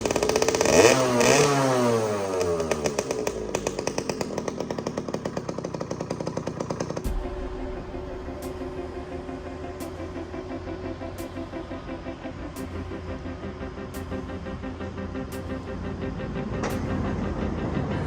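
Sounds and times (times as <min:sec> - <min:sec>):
moped engine revving and idling: 0:00.0 - 0:18.0.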